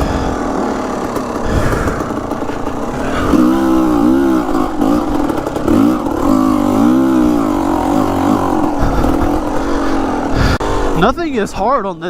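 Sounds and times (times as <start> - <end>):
dirt bike engine revving: 0.0 - 12.0
rough riding noise: 0.0 - 12.0.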